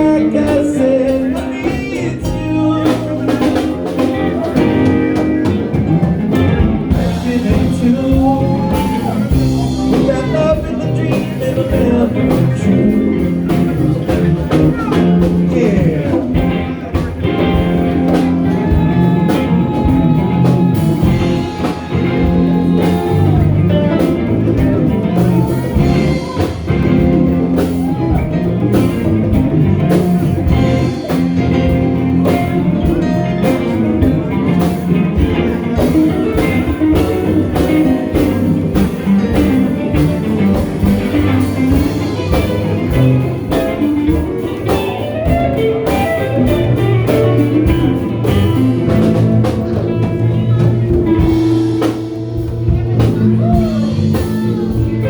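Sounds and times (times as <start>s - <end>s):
blues guitar: 0.0s - 55.0s
drum kit beat: 0.0s - 55.0s.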